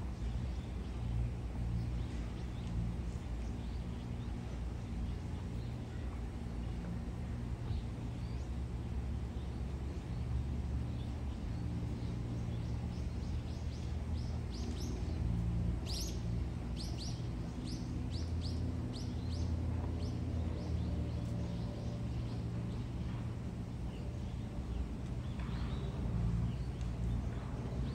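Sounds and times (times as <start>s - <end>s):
low background rumble: 0.0s - 27.9s.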